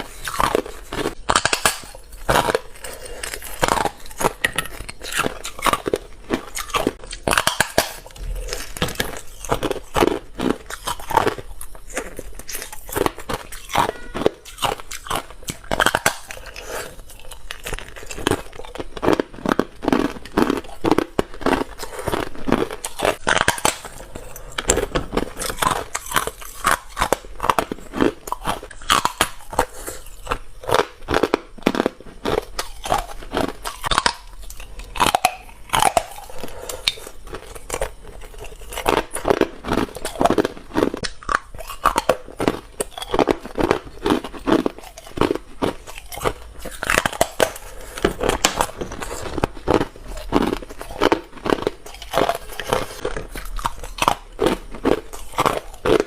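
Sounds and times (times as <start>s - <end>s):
ice crunching between teeth: 0.0s - 56.0s.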